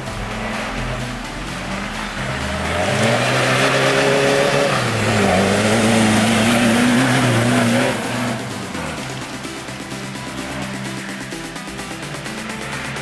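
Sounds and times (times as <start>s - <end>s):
car engine passing: 0.0s - 13.0s.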